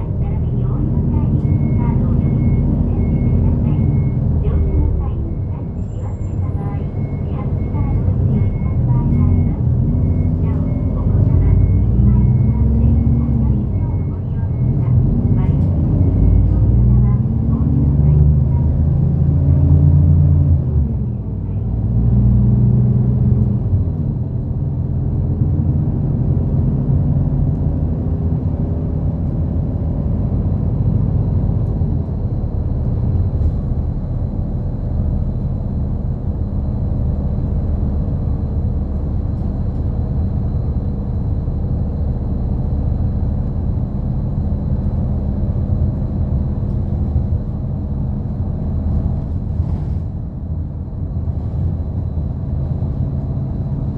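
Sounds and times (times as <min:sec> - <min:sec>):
bus engine running: 0:00.0 - 0:53.9
road rumble: 0:00.0 - 0:53.9.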